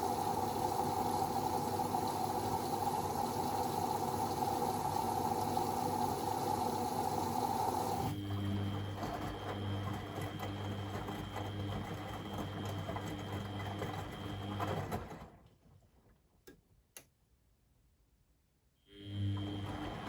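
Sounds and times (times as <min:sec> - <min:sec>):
washing machine motor whining: 0:00.0 - 0:15.4, 0:18.9 - 0:20.0.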